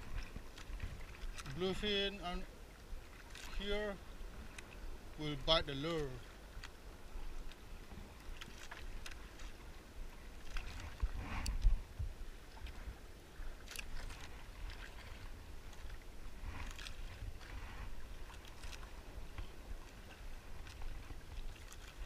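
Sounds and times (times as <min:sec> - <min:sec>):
wind rumbling on microphone: 0:00.0 - 0:05.6, 0:06.2 - 0:22.0
waves lapping against boat hull: 0:00.0 - 0:22.0.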